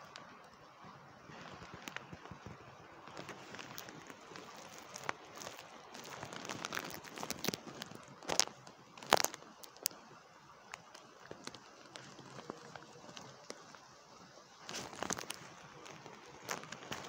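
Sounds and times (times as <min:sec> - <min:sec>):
faint steady hiss: 0:00.0 - 0:17.0
raindrops ticking: 0:00.0 - 0:17.0.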